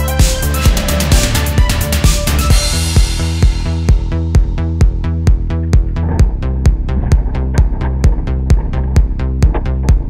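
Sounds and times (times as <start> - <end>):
electronic dance music: 0.0 - 10.0
pulsing bass line: 0.0 - 10.0
kick drum: 0.2 - 10.0.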